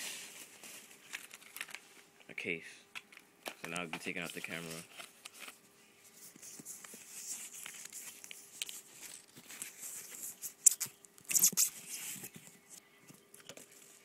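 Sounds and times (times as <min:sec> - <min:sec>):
packaging rustling and crinkling: 0:00.0 - 0:02.0, 0:03.4 - 0:12.7.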